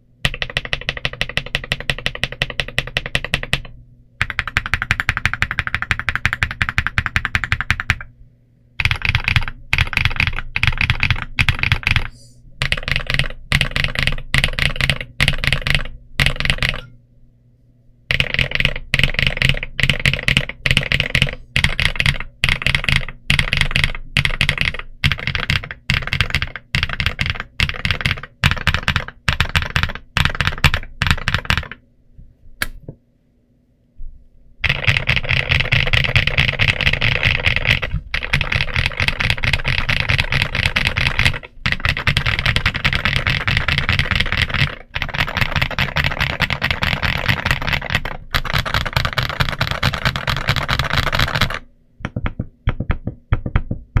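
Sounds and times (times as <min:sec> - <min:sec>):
typing on mechanical keyboard: 0:00.2 - 0:08.1, 0:08.8 - 0:16.9, 0:18.1 - 0:31.8, 0:34.6 - 0:53.7.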